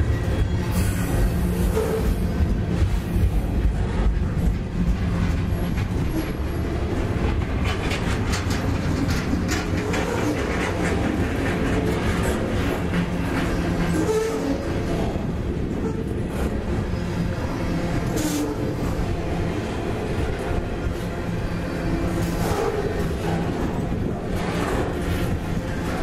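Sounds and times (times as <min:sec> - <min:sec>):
train wheels rumbling on rail: 0:00.0 - 0:26.0
wheels clacking over rail joints: 0:00.2 - 0:26.0.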